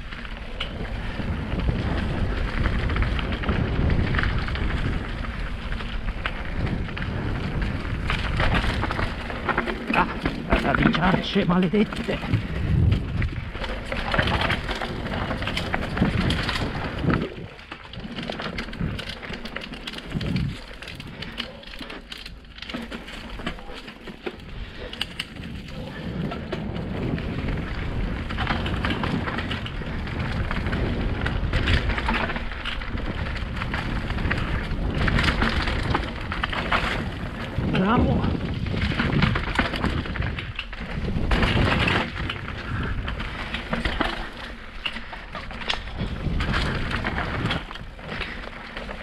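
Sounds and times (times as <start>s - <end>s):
bike clattering over bumps: 0.0s - 49.0s
wind rumbling on microphone: 0.0s - 49.0s
tyres crunching over dirt: 0.4s - 49.0s.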